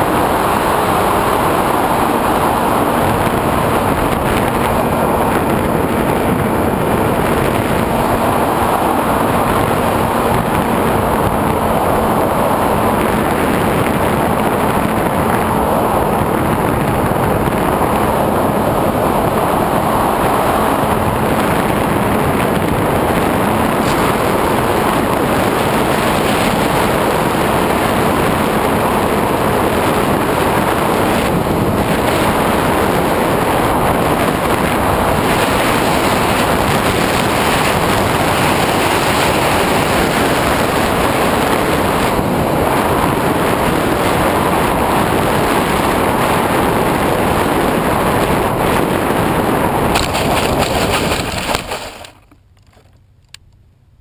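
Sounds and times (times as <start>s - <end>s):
wind rushing over microphone: 0.0s - 52.3s.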